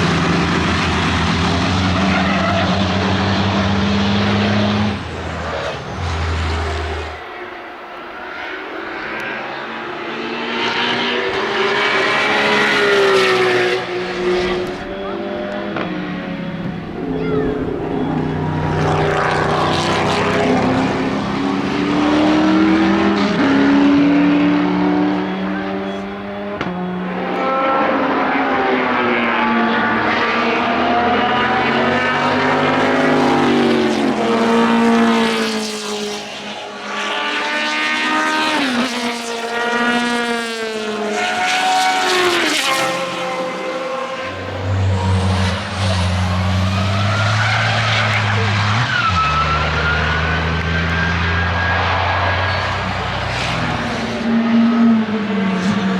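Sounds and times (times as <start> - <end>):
racing car engines accelerating: 0.0 - 55.9.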